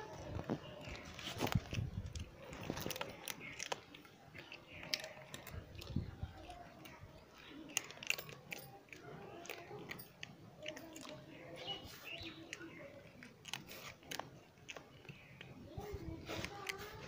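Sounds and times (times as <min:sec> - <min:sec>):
cats chewing food: 0:00.0 - 0:17.0.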